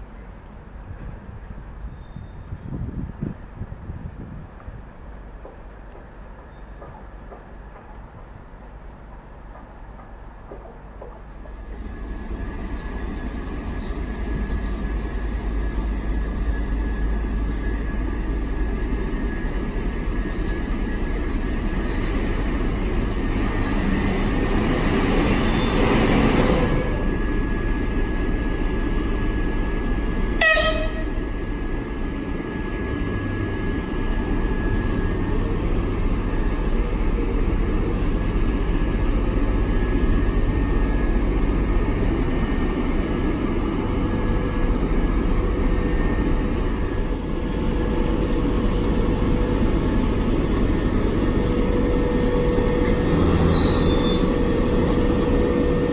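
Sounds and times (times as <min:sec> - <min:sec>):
diesel locomotive engine rumbling: 0:00.0 - 0:55.9.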